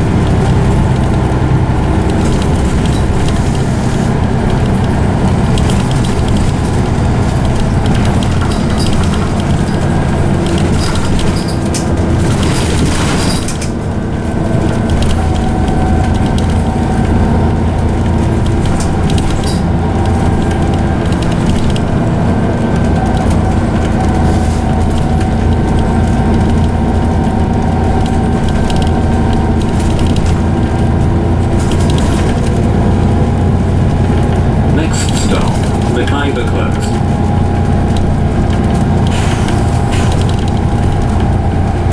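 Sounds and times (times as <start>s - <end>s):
bus body rattling: 0.0s - 41.9s
bus diesel engine running: 0.0s - 41.9s
gearbox whine: 0.0s - 41.9s.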